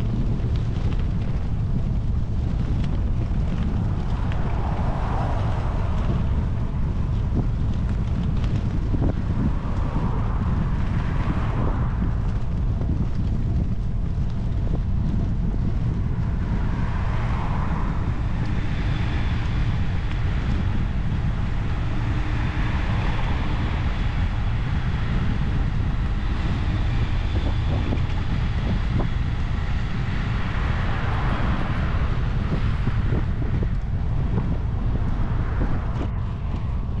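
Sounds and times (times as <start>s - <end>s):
road traffic: 0.0s - 37.0s
wind rumbling on microphone: 0.0s - 37.0s
car overtaking with tyre noise: 0.1s - 37.0s.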